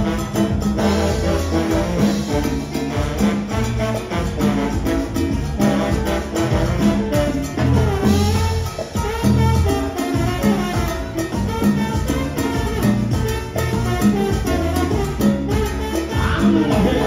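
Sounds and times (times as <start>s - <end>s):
salsa band playing: 0.0s - 17.0s
trombones blowing punchy lines: 0.0s - 17.0s.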